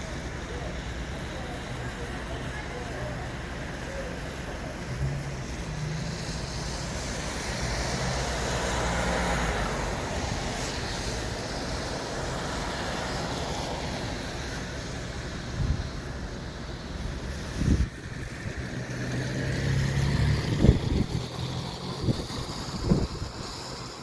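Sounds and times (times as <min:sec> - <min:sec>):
passing vehicles: 0:00.0 - 0:24.0.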